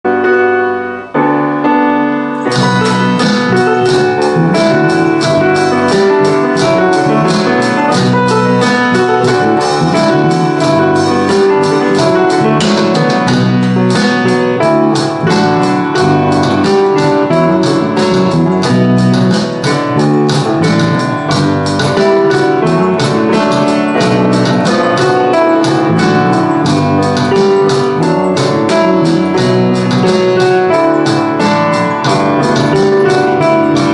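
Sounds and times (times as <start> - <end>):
piano chords: 0.0 - 33.9
bass guitar: 2.5 - 33.9
drums playing a steady beat: 2.5 - 33.9.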